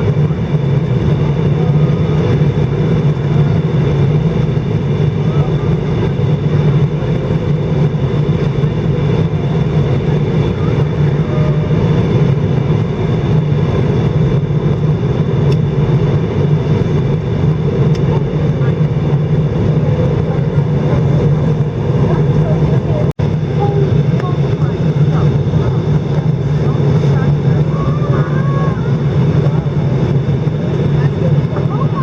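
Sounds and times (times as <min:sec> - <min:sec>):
airliner cabin engine and airflow noise: 0:00.0 - 0:32.0.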